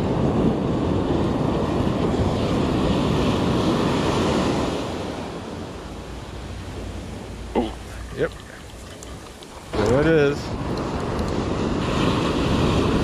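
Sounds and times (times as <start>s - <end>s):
ocean surf washing up beach: 0.0s - 13.0s
wind rumbling on microphone: 0.0s - 13.0s.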